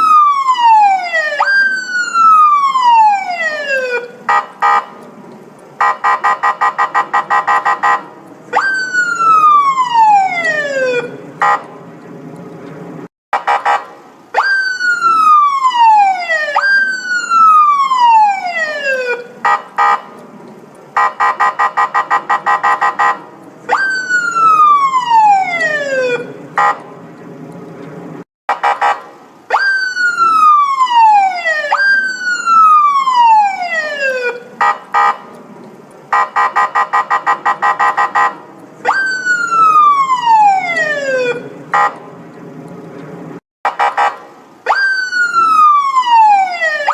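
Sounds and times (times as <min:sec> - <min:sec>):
police siren: 0:00.0 - 0:05.0, 0:05.8 - 0:11.8, 0:13.4 - 0:20.2, 0:20.9 - 0:26.9, 0:28.5 - 0:35.4, 0:36.0 - 0:42.3, 0:43.6 - 0:46.9.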